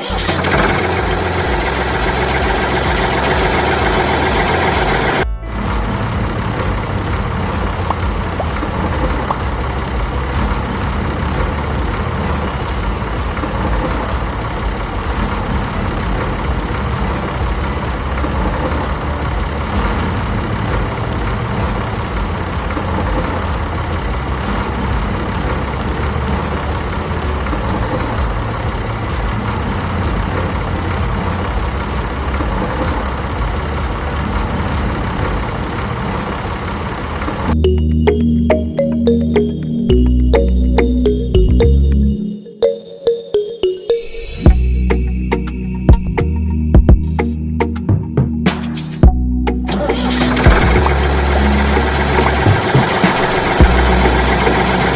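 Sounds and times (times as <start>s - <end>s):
tractor engine droning: 0.0s - 42.4s, 44.2s - 54.9s.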